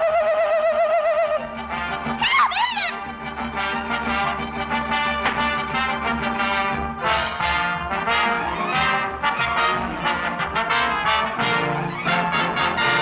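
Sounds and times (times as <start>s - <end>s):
brass orchestral cartoon music: 1.3s - 13.0s.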